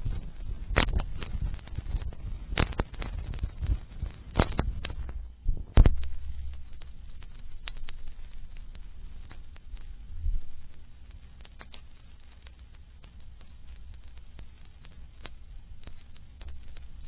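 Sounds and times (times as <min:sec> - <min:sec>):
phonograph surface noise crackle: 0:00.0 - 0:17.0
sharp pops: 0:00.0 - 0:17.0.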